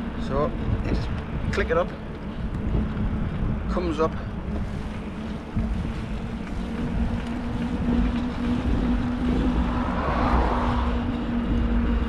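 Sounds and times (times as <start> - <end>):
steady low hum: 0.0 - 12.0
wind rumbling on microphone: 0.0 - 12.0.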